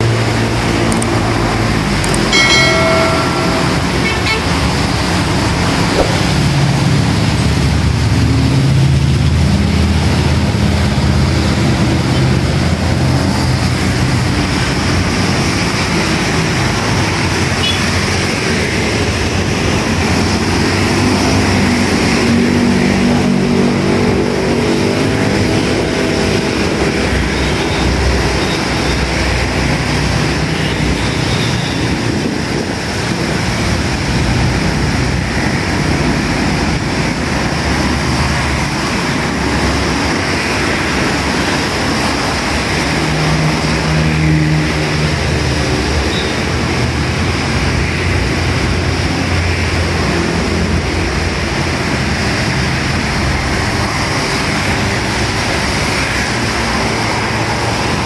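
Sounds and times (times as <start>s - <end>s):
rain: 0.0s - 2.1s, 4.6s - 58.0s
vehicles passing: 0.0s - 58.0s
tyres hissing on wet road: 6.6s - 58.0s.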